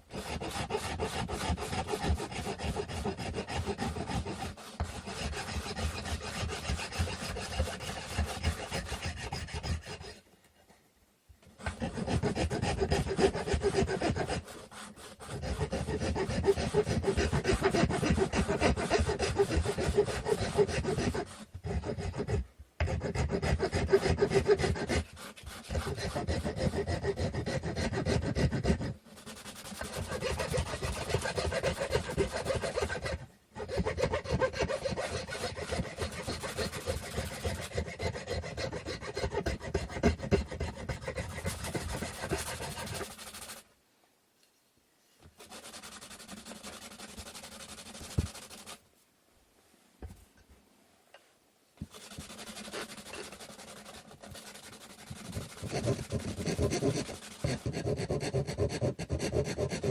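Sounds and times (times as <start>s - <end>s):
hand tool rasping on wood: 0.0s - 10.2s, 11.6s - 43.6s, 45.3s - 48.8s, 51.8s - 59.9s.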